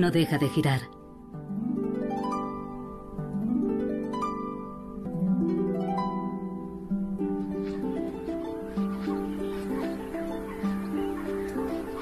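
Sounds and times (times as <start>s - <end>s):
plucked string arpeggios: 0.0s - 12.0s.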